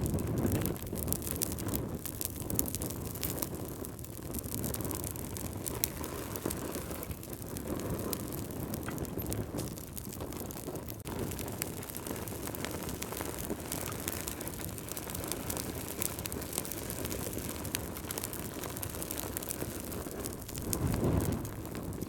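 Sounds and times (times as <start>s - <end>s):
fire low rumble: 0.0s - 22.0s
logs crackling and popping: 0.0s - 22.0s.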